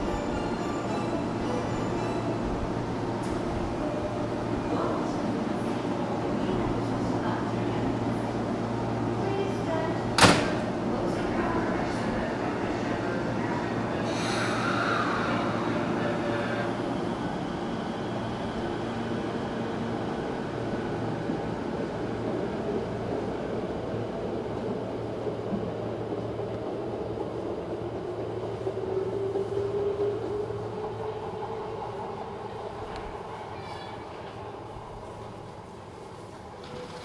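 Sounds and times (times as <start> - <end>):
subway train pulling out: 0.0 - 37.0.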